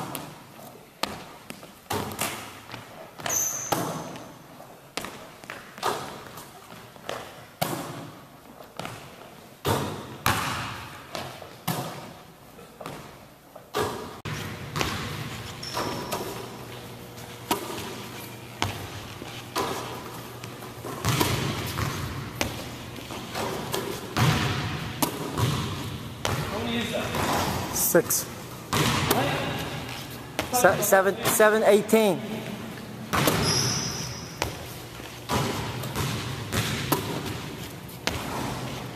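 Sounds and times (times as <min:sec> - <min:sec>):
basketballs bouncing on gym floor: 0:00.0 - 0:00.4, 0:01.0 - 0:04.3, 0:04.9 - 0:12.2, 0:12.8 - 0:38.9.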